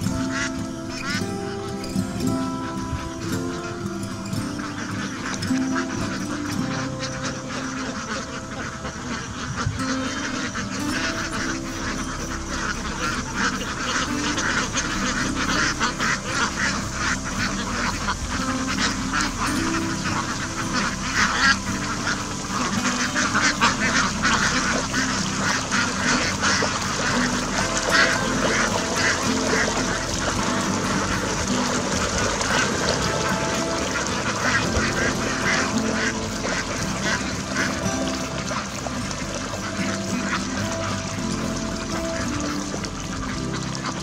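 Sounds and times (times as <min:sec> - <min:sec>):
ducks quacking: 0:00.0 - 0:44.0.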